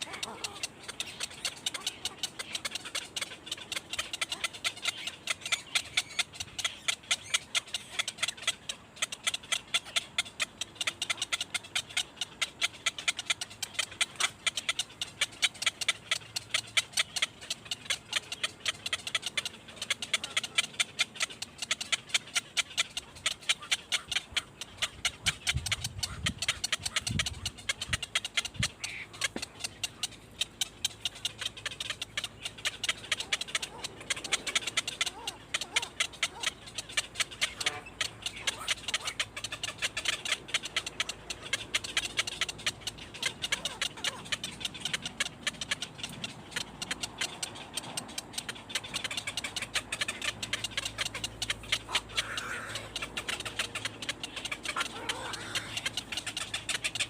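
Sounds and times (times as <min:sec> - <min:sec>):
baby birds cheeping: 0:00.0 - 0:57.0.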